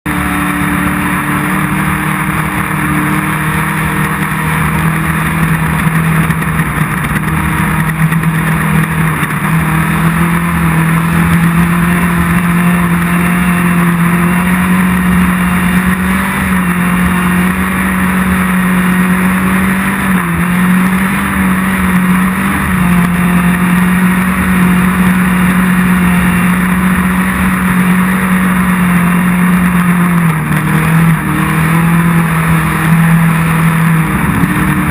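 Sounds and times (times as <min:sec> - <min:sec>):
engine running at high revs: 0:00.0 - 0:34.9.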